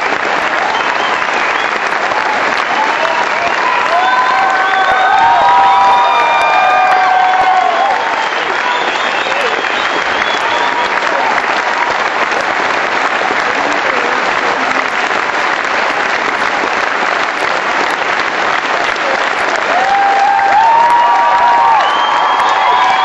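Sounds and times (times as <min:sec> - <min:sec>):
audience applauding: 0:00.0 - 0:23.0
audience cheering: 0:00.0 - 0:23.0.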